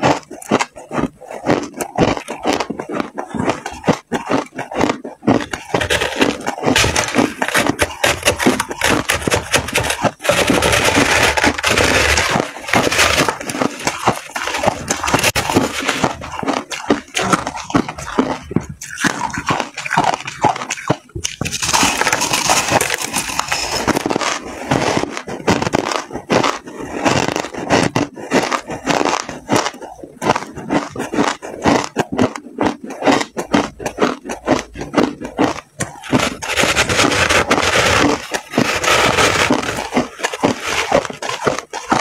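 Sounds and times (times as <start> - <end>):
ice being chewed with crunches: 0.0 - 42.0.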